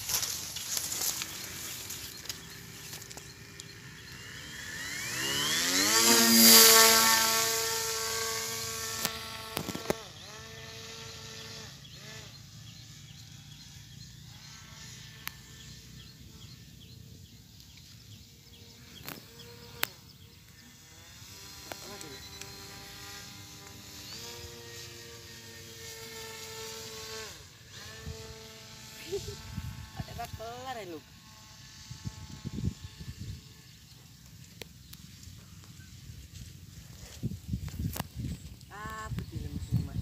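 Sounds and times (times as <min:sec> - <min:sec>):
electric motor and propeller whining: 0:00.0 - 0:40.0.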